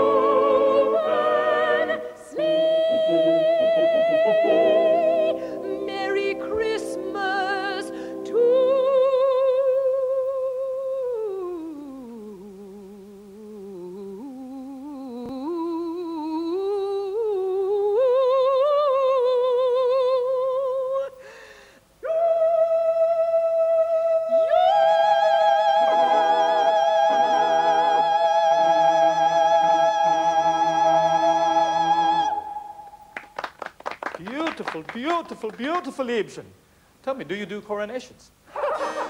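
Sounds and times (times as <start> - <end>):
singing voice with vibrato: 0.0 - 21.2, 21.9 - 33.4.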